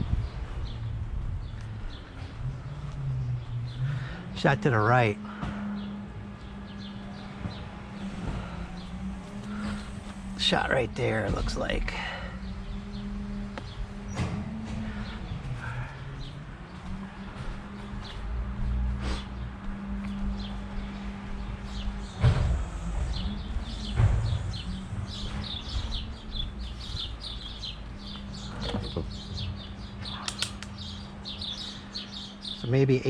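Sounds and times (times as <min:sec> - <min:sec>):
small birds chirping: 0:00.0 - 0:33.0
steady low hum: 0:00.0 - 0:33.0.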